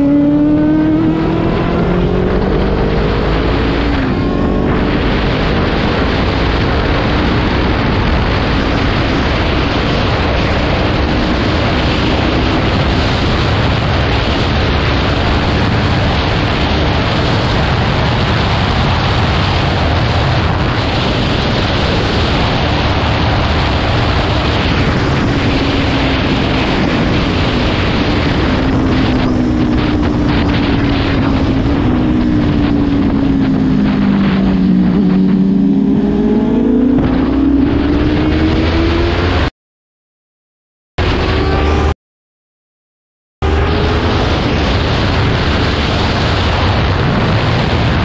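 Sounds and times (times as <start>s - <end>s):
motorcycle engine: 0.0s - 39.5s, 43.4s - 48.0s
wind noise on microphone: 0.0s - 39.5s, 41.0s - 41.9s, 43.4s - 48.0s.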